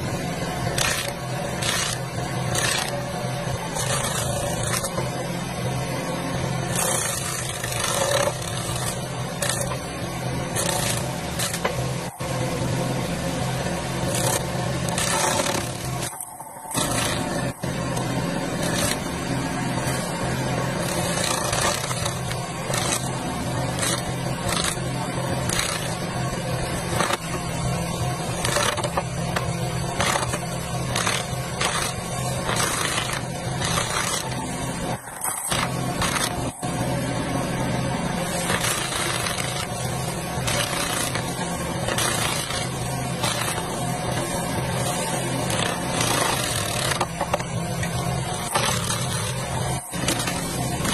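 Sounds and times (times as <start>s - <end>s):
skid steer engine running: 0.0s - 50.9s
stump crusher grinding wood: 0.0s - 50.9s.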